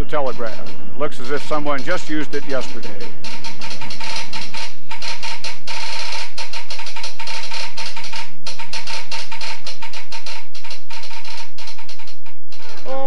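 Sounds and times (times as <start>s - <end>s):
telegraph sounder clicking: 0.0s - 13.0s.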